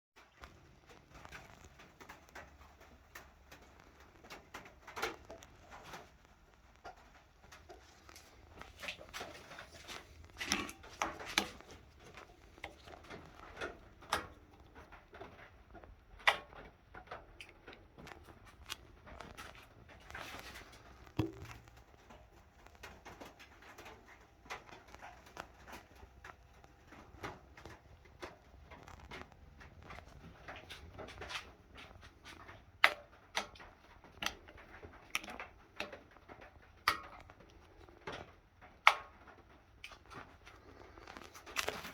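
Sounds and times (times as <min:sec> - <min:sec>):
clicks and light knocks: 0:00.2 - 0:41.9.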